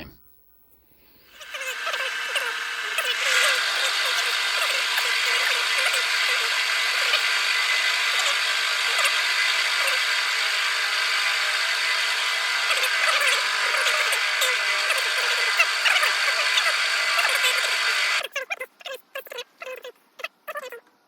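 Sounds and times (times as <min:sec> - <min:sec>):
power tool cutting steel: 0:01.3 - 0:18.2.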